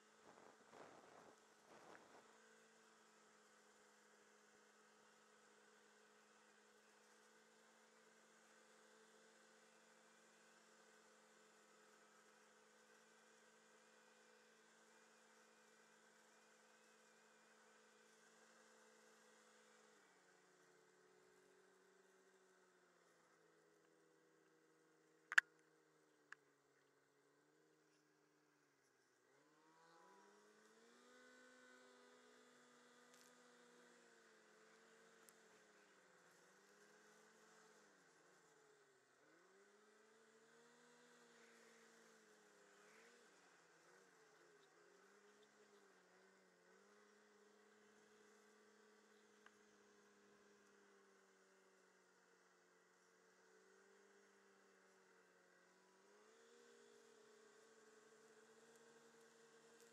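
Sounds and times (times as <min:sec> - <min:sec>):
faint snowmobile engine: 0:00.0 - 0:59.9
faint steady hum and hiss: 0:00.0 - 0:59.9.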